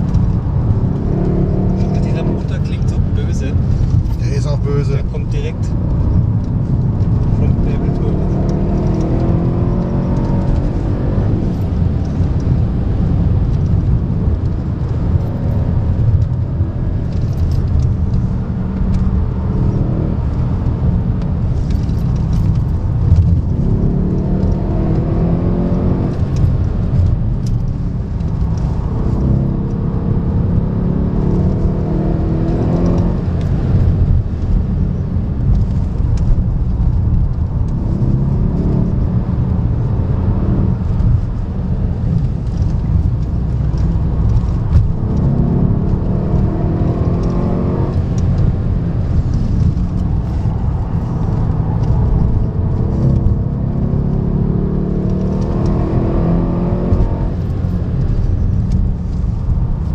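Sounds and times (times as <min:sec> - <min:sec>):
car engine accelerating: 0:00.0 - 0:59.9
road and tyre rumble: 0:00.0 - 0:59.9.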